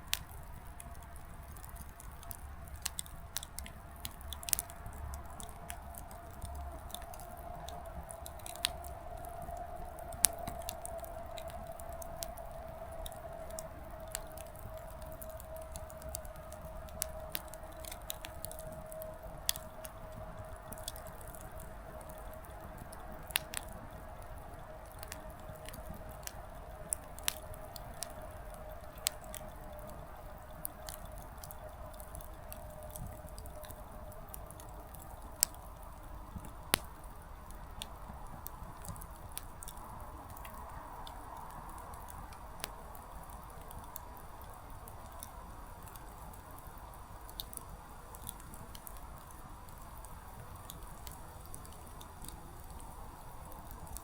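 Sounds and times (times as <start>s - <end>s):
faint steady hiss: 0.0s - 54.0s
firewood crackling and popping: 0.0s - 54.0s.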